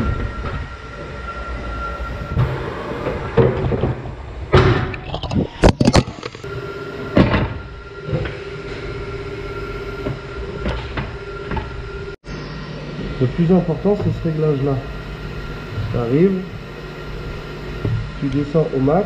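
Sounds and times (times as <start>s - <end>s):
tyre-changing machine hum: 0.0s - 19.0s.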